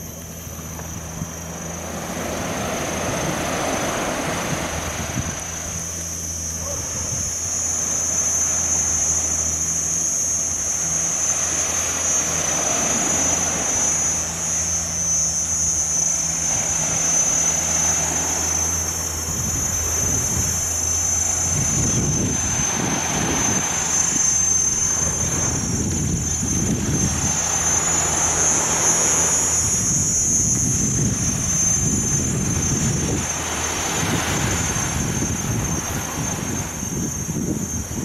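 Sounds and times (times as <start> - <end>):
high-pitched whine: 0.0 - 38.0
low engine drone: 0.0 - 38.0
outdoor noise: 0.0 - 38.0.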